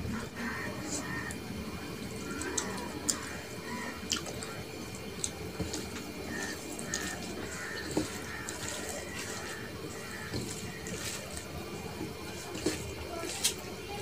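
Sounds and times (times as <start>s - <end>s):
fingers squishing rice: 2.2s - 14.0s.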